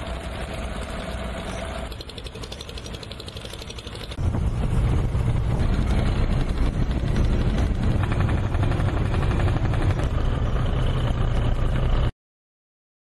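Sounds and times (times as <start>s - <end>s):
ship engine rumbling: 0.0s - 12.1s.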